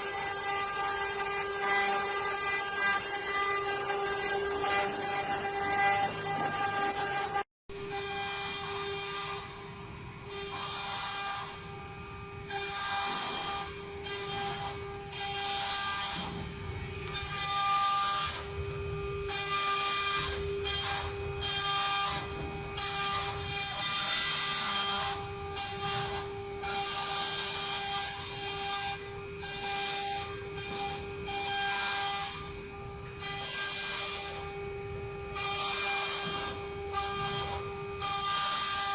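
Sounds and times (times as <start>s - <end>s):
router spindle whine: 0.0s - 38.9s.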